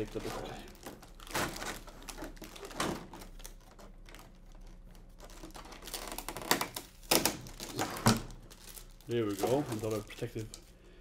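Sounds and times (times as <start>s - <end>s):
plastic packaging rustling: 0.0s - 10.8s.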